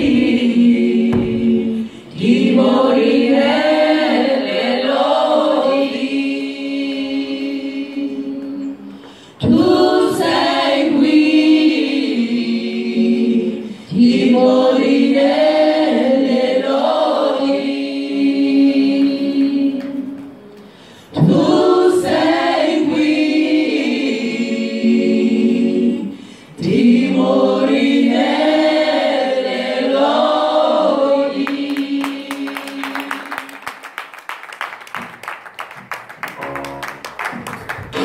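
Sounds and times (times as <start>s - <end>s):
women's choir singing: 0.0s - 33.8s.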